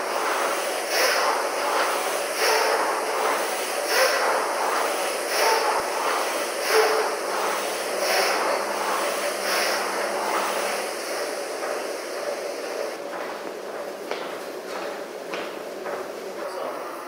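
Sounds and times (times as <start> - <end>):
rowing machine fan whooshing: 0.0 - 17.0
steady hum: 0.0 - 17.0.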